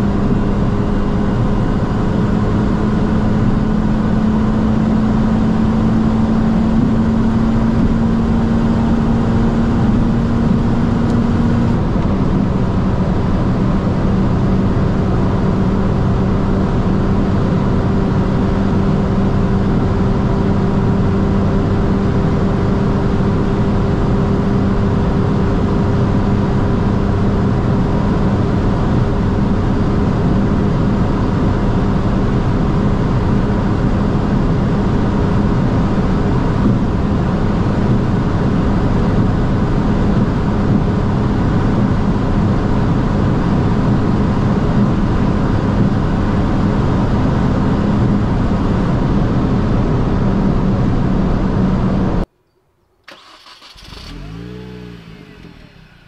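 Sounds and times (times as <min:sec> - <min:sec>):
car engine under load: 0:00.0 - 0:52.3, 0:53.0 - 0:56.0
road and wind noise: 0:00.0 - 0:56.0.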